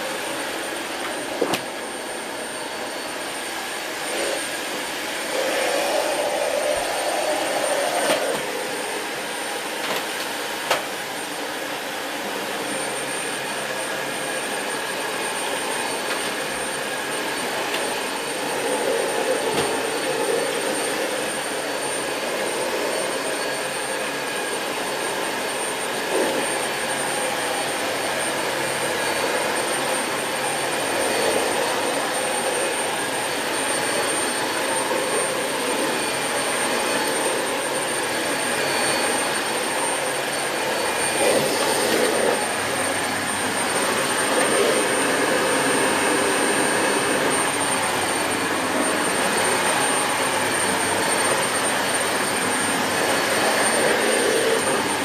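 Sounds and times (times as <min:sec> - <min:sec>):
vacuum cleaner running over carpet: 0:00.0 - 0:55.0.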